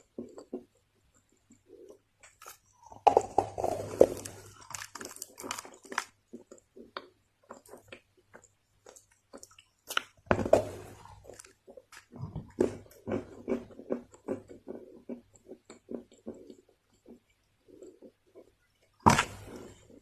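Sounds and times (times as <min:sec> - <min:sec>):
chewing crunchy soil: 0:01.5 - 0:18.6.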